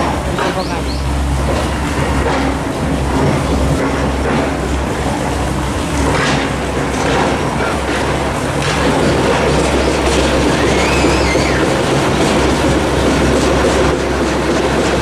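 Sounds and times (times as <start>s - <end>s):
construction machinery engine rumble: 0.0s - 15.0s
rough mechanical clatter: 1.3s - 15.0s.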